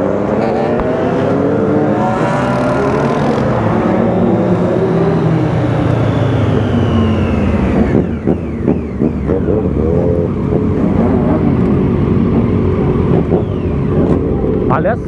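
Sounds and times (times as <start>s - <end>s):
motorcycles idling and revving: 0.0s - 15.0s
motorcycle engine winding down: 2.4s - 15.0s.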